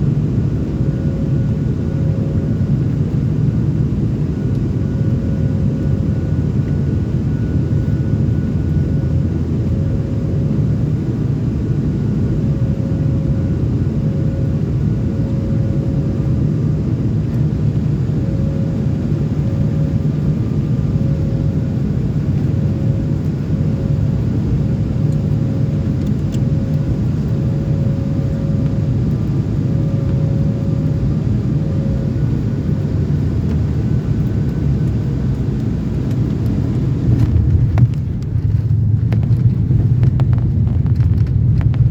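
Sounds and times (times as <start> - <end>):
engine and airflow rumble: 0.0 - 41.9
faint steady whine: 0.0 - 41.9.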